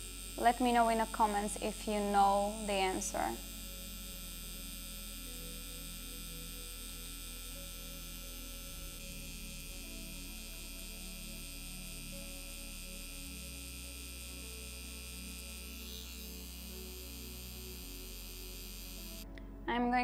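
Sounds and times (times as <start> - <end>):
tattoo machine humming: 0.0 - 19.3
soft background music: 0.0 - 20.0.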